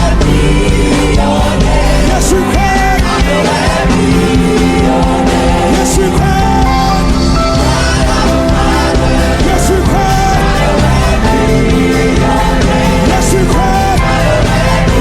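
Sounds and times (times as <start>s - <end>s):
voices singing held notes: 0.0s - 15.0s
worship band playing: 0.0s - 15.0s.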